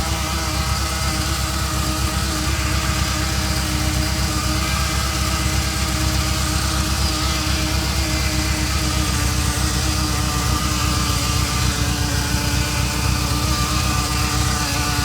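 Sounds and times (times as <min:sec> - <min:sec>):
car engine idling with buzz: 0:00.0 - 0:15.0.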